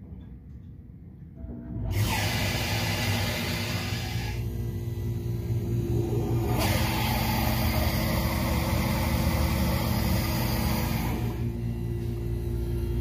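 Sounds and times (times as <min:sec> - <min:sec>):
pump motor humming: 0:01.8 - 0:13.0.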